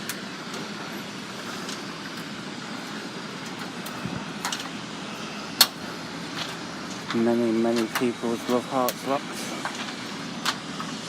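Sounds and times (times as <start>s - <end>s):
urban background noise: 0.0s - 11.0s.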